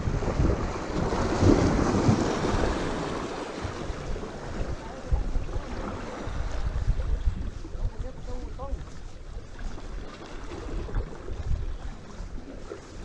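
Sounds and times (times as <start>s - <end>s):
ocean surf on shore: 0.0s - 13.0s
wind buffeting microphone: 0.0s - 13.0s.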